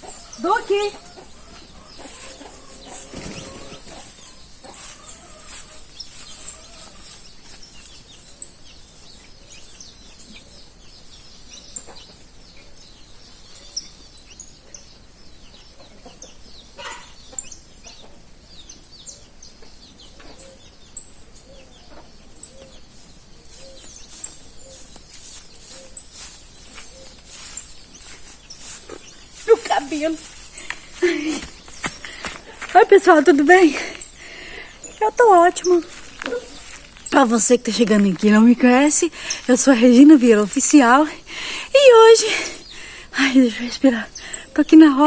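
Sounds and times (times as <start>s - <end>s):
chickens clucking: 0.0s - 13.6s, 14.7s - 45.0s
small bird chirping: 0.0s - 45.0s.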